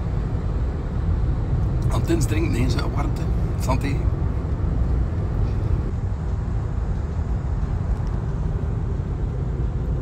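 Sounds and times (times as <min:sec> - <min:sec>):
tyre and wind noise in car: 0:00.0 - 0:10.0.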